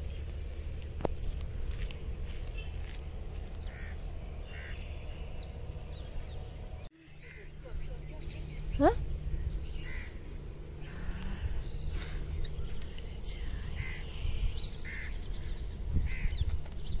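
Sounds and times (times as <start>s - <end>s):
birds chirping: 0.0s - 17.0s
low wind rumble: 0.0s - 17.0s.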